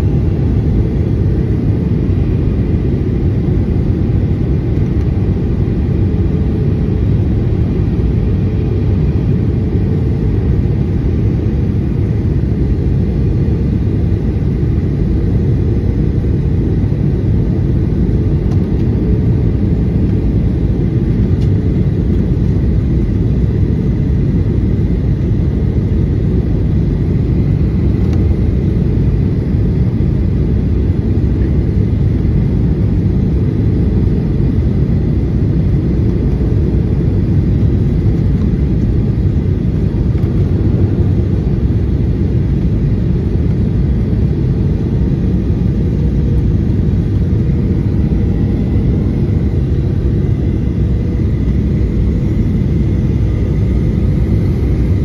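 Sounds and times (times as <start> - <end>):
airplane cabin engine rumble: 0.0 - 55.0
faint steady whine: 0.0 - 55.0.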